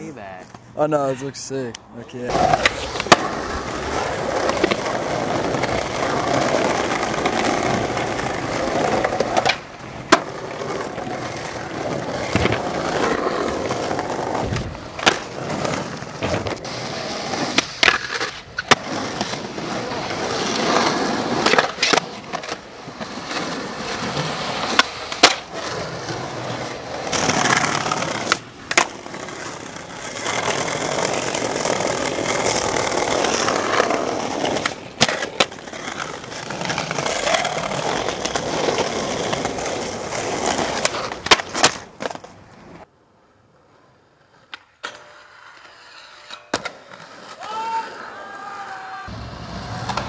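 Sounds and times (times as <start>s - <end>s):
skateboard wheels rolling on concrete: 0.0s - 50.0s
skateboard clacking and grinding: 2.3s - 42.9s, 43.5s - 48.1s, 49.1s - 50.0s.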